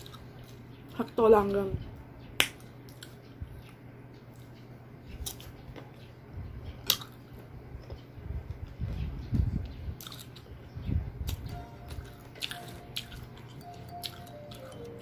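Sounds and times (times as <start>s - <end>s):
chewing crunchy fruit: 0.0s - 1.6s, 2.5s - 10.6s, 11.2s - 15.0s.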